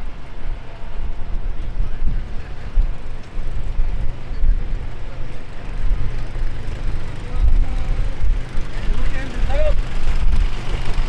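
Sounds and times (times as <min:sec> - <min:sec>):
street traffic passing: 0:00.0 - 0:11.0
wind buffeting microphone: 0:00.0 - 0:11.0.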